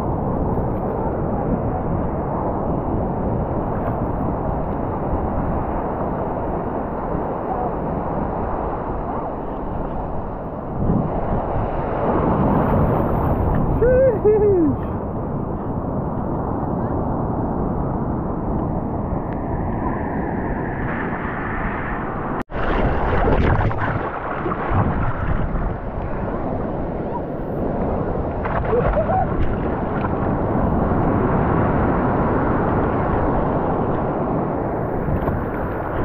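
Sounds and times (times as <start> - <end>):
surf and splashing water: 0.0 - 36.0
wind buffeting microphone: 0.0 - 36.0.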